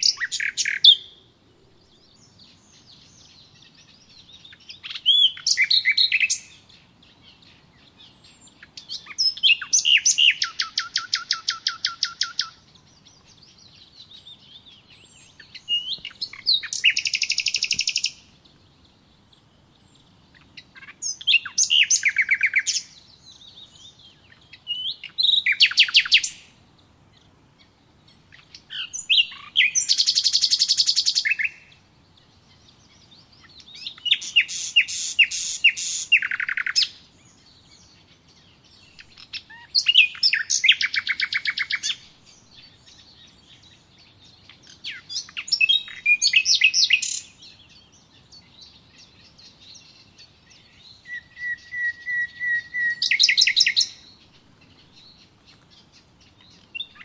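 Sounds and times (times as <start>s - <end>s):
songbird trilling: 0.0s - 1.2s, 1.9s - 57.0s
soft bird chirps: 0.0s - 57.0s.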